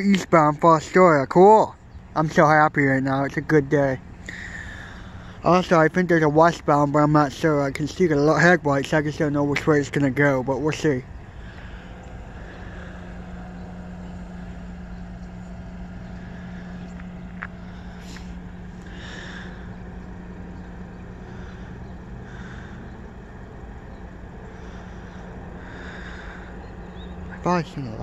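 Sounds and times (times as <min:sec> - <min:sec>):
faint outdoor background noise: 0:00.0 - 0:28.0
vehicle engine idling: 0:00.0 - 0:28.0.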